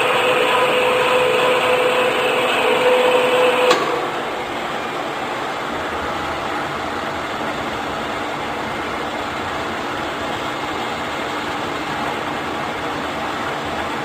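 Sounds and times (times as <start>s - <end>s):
lathe whirring: 0.0s - 14.0s.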